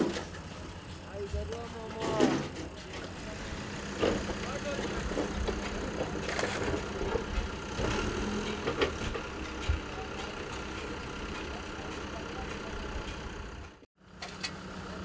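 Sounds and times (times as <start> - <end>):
diesel engine idling: 2.6 - 15.0.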